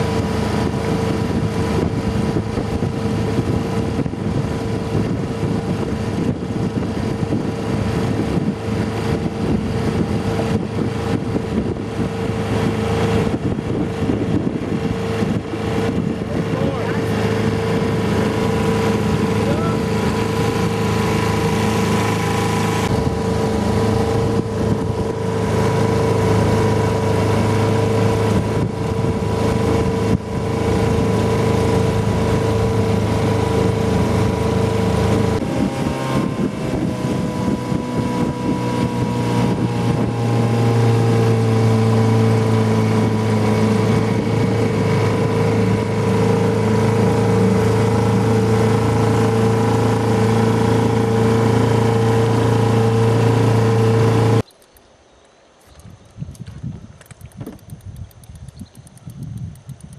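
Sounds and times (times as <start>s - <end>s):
outboard motor running: 0.0s - 54.5s.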